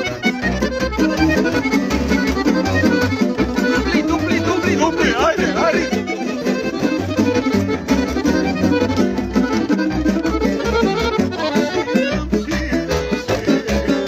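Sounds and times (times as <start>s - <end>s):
double bass plucked: 0.0s - 14.0s
quick band melody: 0.0s - 14.0s.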